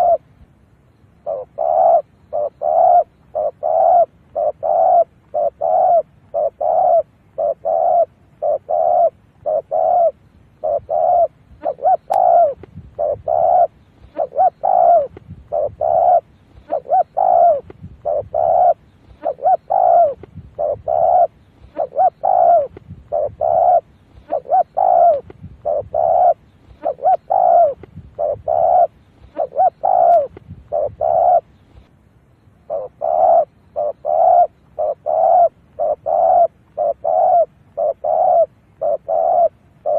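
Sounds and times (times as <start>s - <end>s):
dove cooing: 0.0s - 0.3s, 1.2s - 31.9s, 32.6s - 39.9s.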